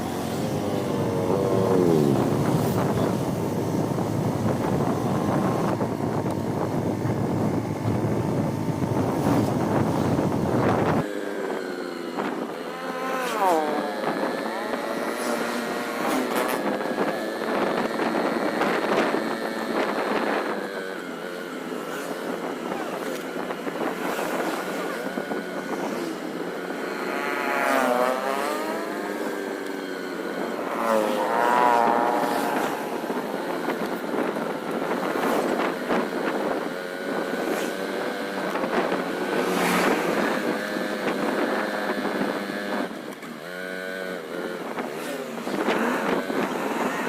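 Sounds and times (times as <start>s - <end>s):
vehicle engines running: 0.0s - 47.0s.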